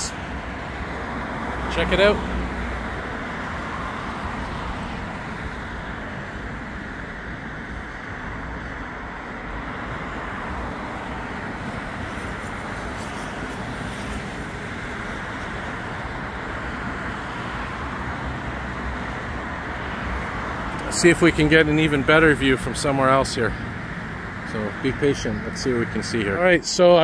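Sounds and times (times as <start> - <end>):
highway traffic passing: 0.0 - 27.0.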